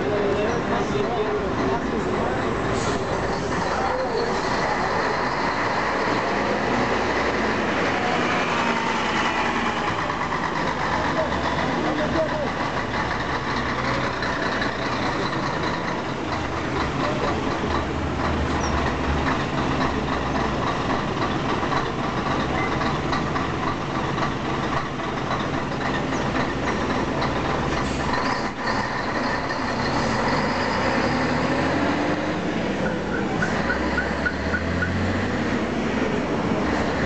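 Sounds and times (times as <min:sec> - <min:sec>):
diesel coach engine: 0:00.0 - 0:37.0.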